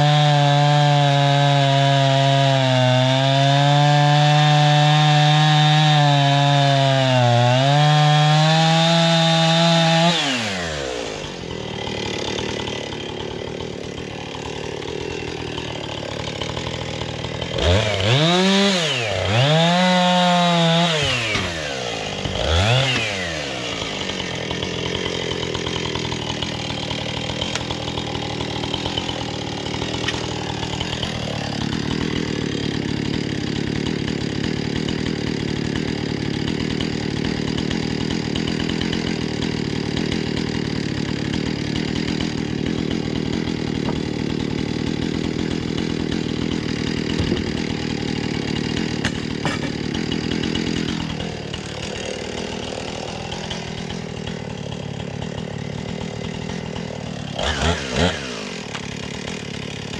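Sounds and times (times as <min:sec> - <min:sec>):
chainsaw engine revving and idling: 0:00.0 - 0:59.9.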